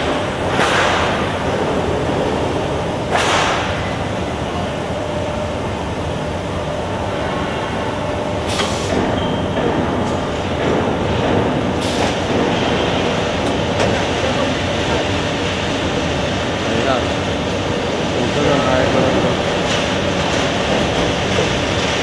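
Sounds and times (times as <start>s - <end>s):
steady machinery din: 0.0s - 22.0s.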